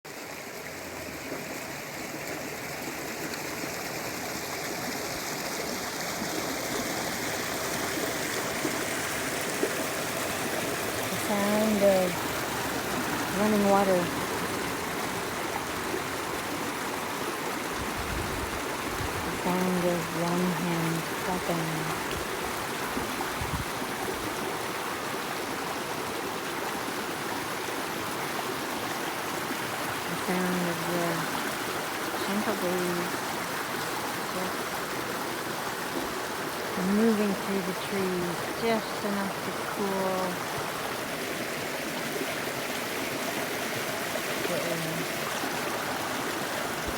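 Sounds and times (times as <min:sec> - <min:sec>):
mountain stream running water: 0:00.0 - 0:46.9.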